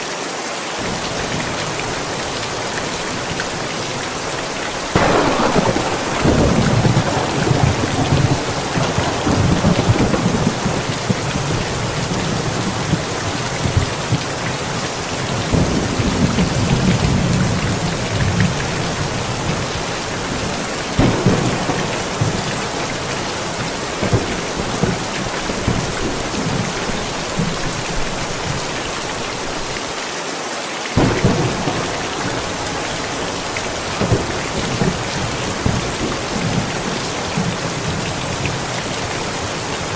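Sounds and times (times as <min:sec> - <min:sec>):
steady rain falling: 0:00.0 - 0:39.9
sharp thunder claps: 0:00.8 - 0:29.7, 0:31.0 - 0:39.9
thunder rumbling: 0:00.8 - 0:29.8, 0:31.0 - 0:39.9.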